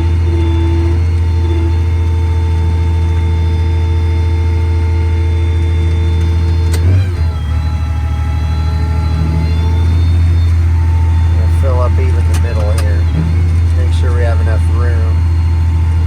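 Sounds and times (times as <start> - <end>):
diesel engine droning: 0.0 - 16.0
machinery whining tones: 0.0 - 16.0.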